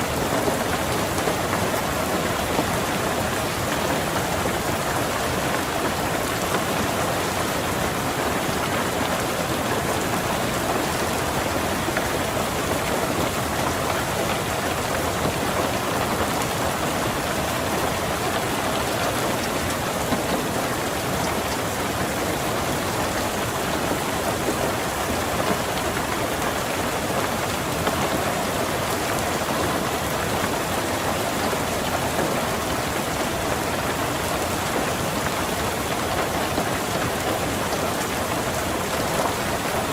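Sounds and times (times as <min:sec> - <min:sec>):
rain falling on a car: 0:00.0 - 0:39.9.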